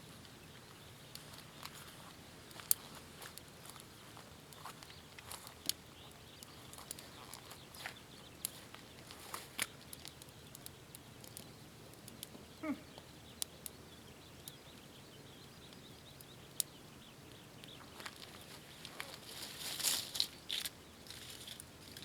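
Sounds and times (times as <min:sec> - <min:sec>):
campfire crackling and popping: 0:01.0 - 0:22.0.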